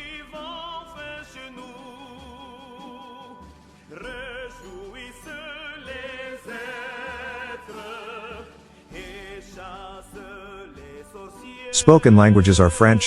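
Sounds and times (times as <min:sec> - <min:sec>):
operatic singing with vibrato: 0:00.0 - 0:13.0.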